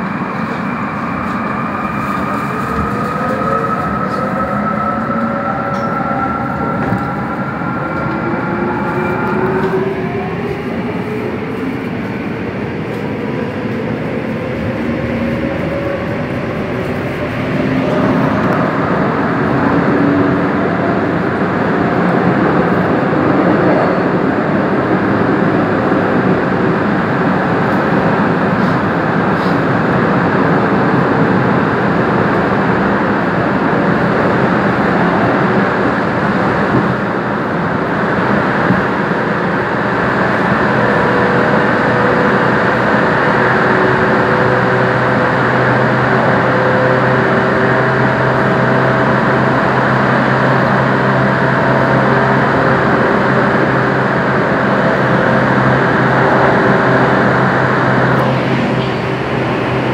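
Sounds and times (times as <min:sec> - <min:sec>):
train wheels rumbling on rail: 0:00.0 - 0:59.9
train whining tones: 0:00.0 - 0:59.9.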